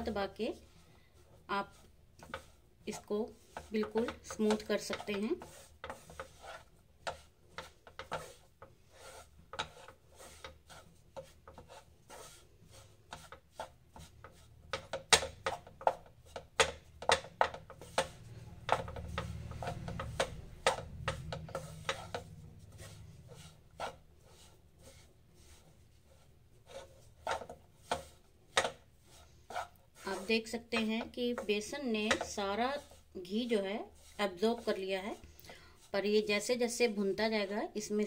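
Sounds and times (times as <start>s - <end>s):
wooden spatula scraping pan: 0.0s - 38.0s.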